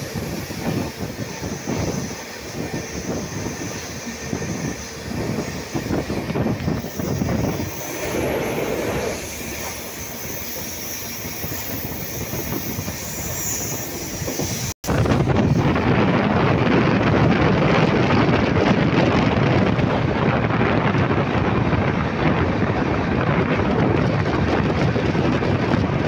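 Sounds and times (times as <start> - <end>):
rushing air: 0.0 - 26.0.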